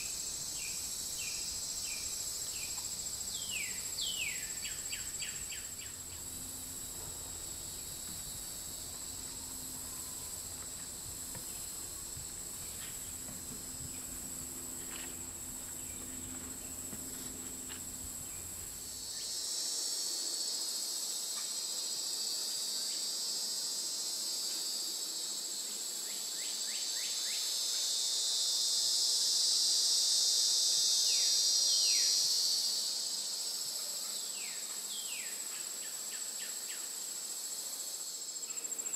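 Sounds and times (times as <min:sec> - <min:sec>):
high-pitched insects trilling: 0:00.0 - 0:38.9
lower insect chorus: 0:00.0 - 0:38.9.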